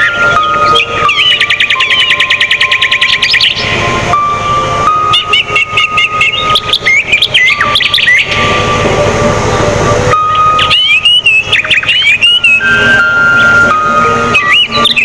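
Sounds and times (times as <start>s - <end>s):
songbird singing: 0.0s - 8.9s, 9.5s - 15.0s
steady held tone: 0.0s - 15.0s.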